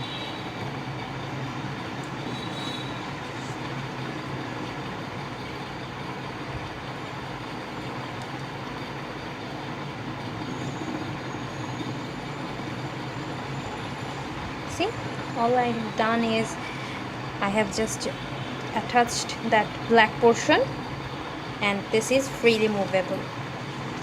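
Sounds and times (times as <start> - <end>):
steady background hum and hiss: 0.0 - 24.0.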